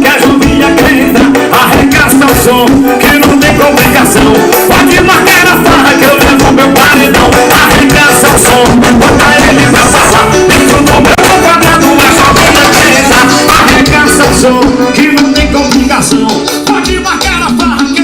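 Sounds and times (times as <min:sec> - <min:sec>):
loud music with singing: 0:00.0 - 0:18.0.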